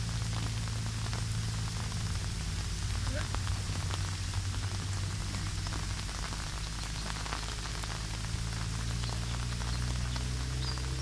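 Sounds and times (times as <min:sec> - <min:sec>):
heavy rain on grass and leaves: 0:00.0 - 0:11.0
low rumble of wind: 0:00.0 - 0:11.0.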